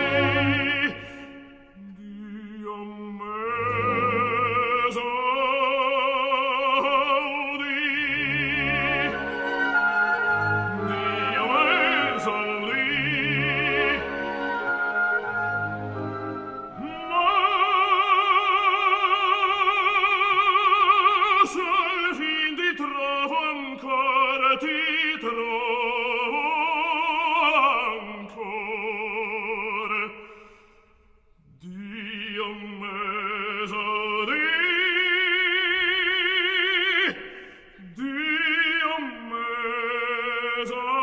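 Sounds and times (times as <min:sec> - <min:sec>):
operatic singing voice: 0:00.0 - 0:30.3, 0:31.4 - 0:41.0.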